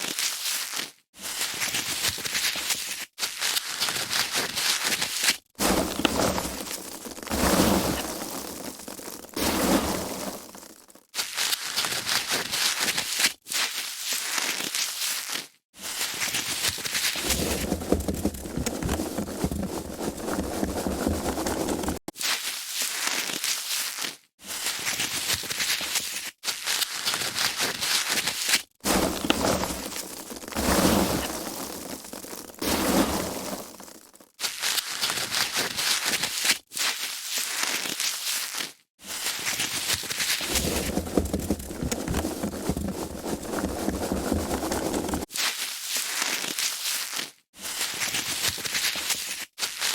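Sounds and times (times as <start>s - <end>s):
foam packaging crinkling: 0.0s - 49.9s.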